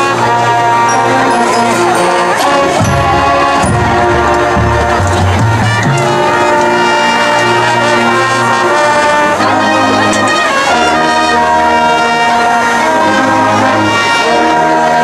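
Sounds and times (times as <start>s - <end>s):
marching band brass chords: 0.0s - 15.0s.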